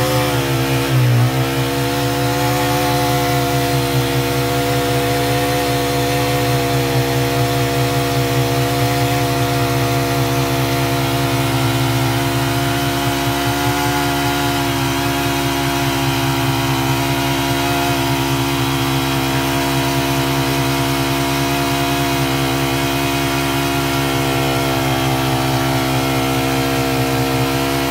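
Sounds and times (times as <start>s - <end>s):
drilling rig engine running: 0.0s - 27.9s.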